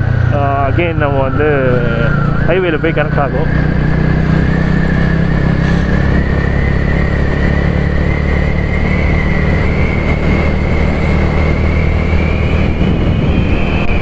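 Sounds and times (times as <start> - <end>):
motorcycle engine running: 0.0 - 14.0
road noise rushing: 0.0 - 14.0.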